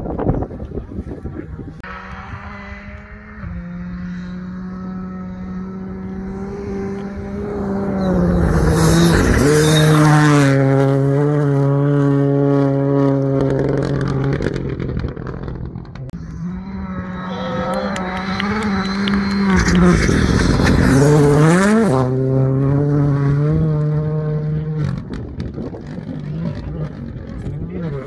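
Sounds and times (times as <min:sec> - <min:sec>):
car engine running hard: 0:00.1 - 0:28.0
another engine note: 0:01.8 - 0:25.2.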